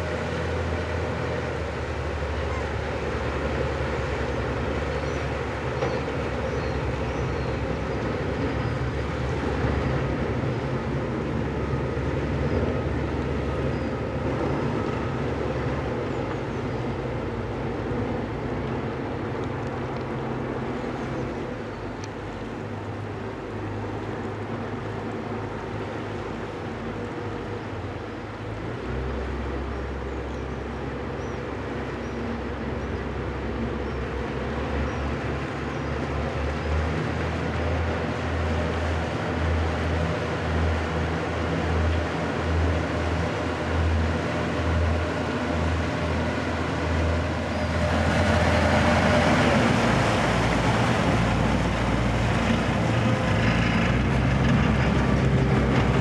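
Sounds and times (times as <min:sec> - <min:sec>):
diesel engine low drone: 0:00.0 - 0:56.0.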